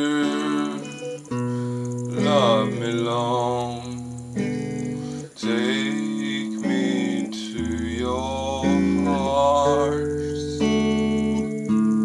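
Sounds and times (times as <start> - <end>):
man singing: 0.0 - 1.3, 2.1 - 11.5
electric guitar chords: 0.0 - 12.0.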